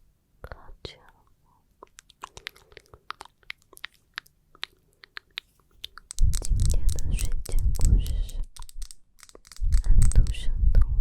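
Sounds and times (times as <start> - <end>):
soft clicks and crackles: 1.1 - 10.9.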